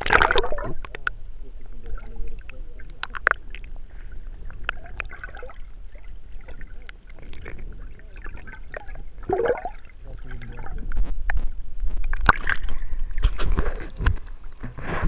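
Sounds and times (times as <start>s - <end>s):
low steady rumble: 0.0s - 14.8s
water sloshing and splashing: 0.0s - 15.0s.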